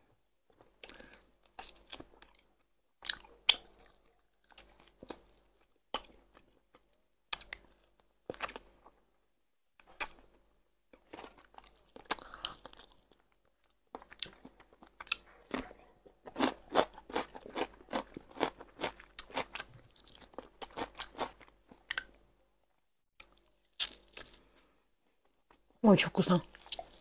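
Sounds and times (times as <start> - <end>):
person chewing crunchy food: 0.5 - 9.0, 11.0 - 22.2, 23.2 - 24.7, 26.5 - 27.0.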